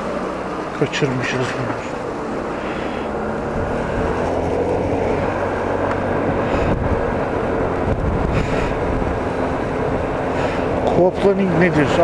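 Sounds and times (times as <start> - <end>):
scooter engine cruising: 0.0 - 12.0
wind and tyres on wet road: 0.0 - 12.0.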